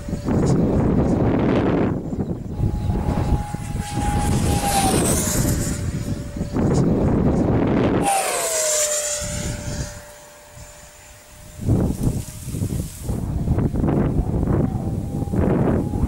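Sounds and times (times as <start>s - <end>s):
jet passing overhead: 0.0s - 16.0s
wind rumble on microphone: 0.0s - 16.0s.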